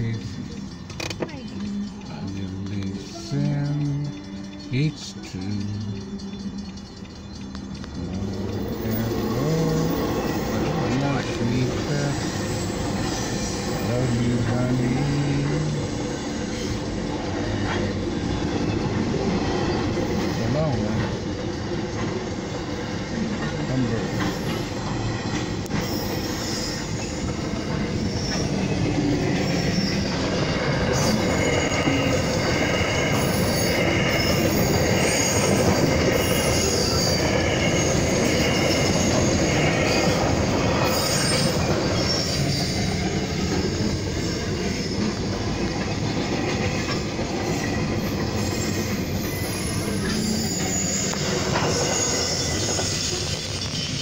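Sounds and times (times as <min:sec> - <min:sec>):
train wheels rumbling on rail: 0:00.0 - 0:54.0
high-pitched wheel squeal: 0:03.0 - 0:21.2, 0:22.8 - 0:54.0.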